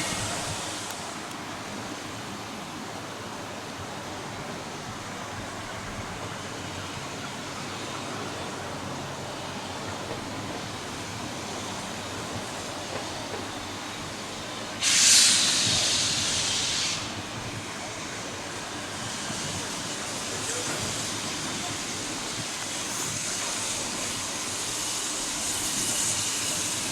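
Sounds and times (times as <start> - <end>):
locomotive venting steam: 0.0 - 26.9.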